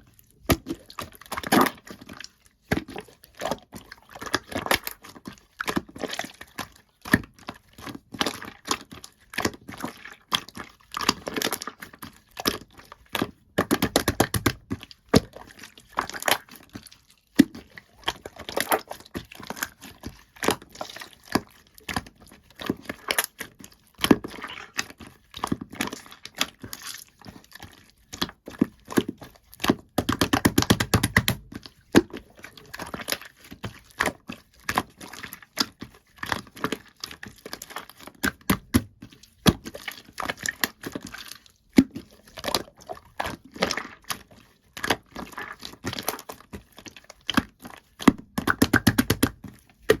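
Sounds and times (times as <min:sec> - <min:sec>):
slime squishing wet pops: 0:00.4 - 0:50.0.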